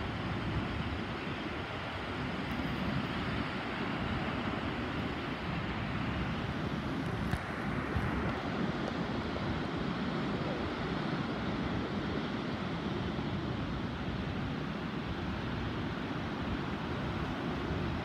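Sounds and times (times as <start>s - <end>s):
distant surf breaking: 0.0s - 18.0s.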